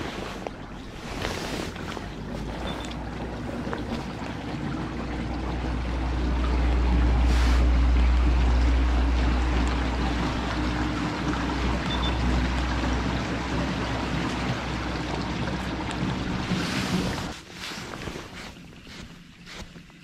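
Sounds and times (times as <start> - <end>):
trolling motor humming: 0.0 - 17.4
water washing along hull: 0.0 - 20.0.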